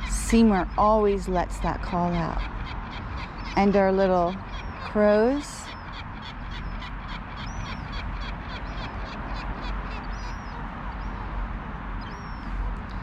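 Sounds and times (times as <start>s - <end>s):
gull calling: 0.0s - 11.2s
steady background noise: 0.0s - 13.0s.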